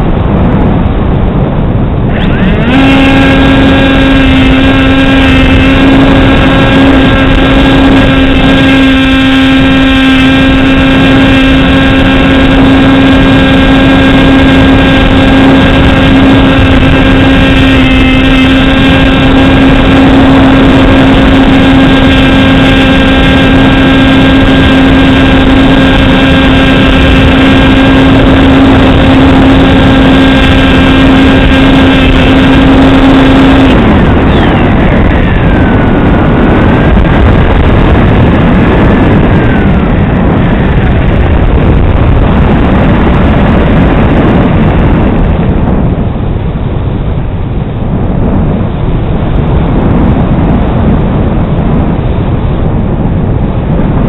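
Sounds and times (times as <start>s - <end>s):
model aircraft motor humming: 0.0s - 46.1s
wind rushing over microphone: 0.0s - 54.0s.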